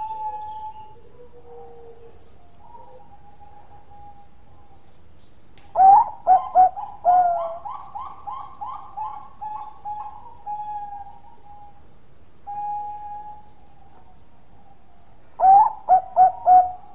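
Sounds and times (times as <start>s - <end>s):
dove cooing: 0.0s - 4.9s, 5.8s - 11.8s, 12.5s - 16.9s.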